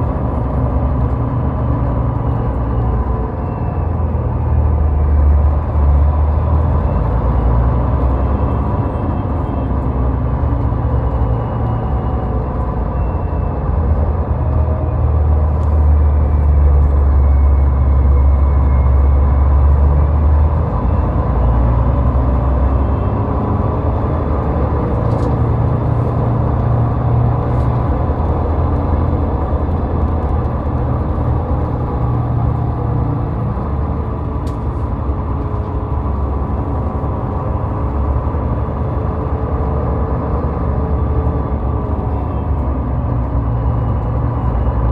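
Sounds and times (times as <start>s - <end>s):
car driving on highway: 0.0s - 44.9s.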